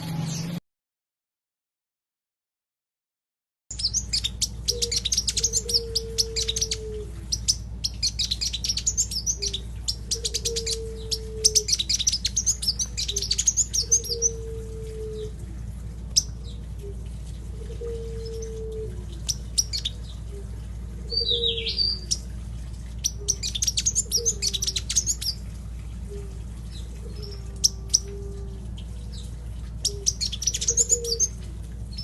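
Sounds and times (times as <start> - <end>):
sunbird twittering: 3.7 - 15.3, 16.1 - 25.5, 26.1 - 32.0
steady low hum: 3.7 - 32.0.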